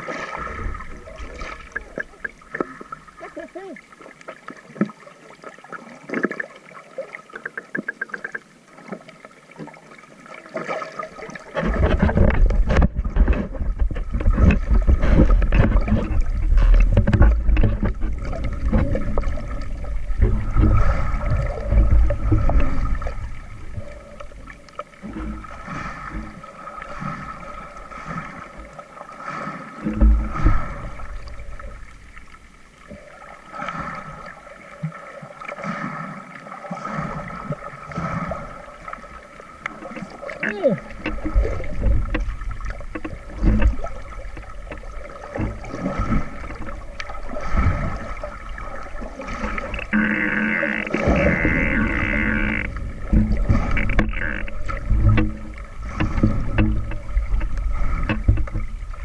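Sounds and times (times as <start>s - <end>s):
seawater splashing and gurgling: 0.0s - 59.0s.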